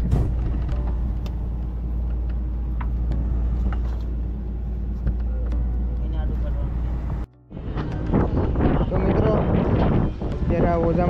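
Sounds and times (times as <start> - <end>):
boat diesel engine rumbling: 0.0 - 11.0.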